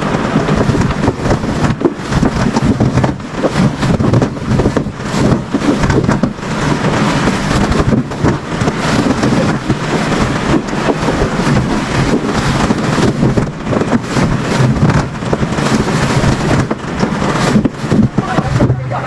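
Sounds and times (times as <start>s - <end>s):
low engine rumble: 0.0s - 19.0s
wind buffeting microphone: 0.0s - 19.0s.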